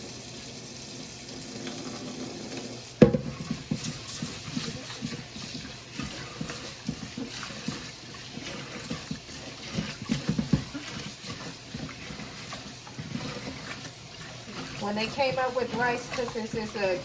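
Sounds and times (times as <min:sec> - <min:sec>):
rice swishing in water: 0:03.0 - 0:17.0.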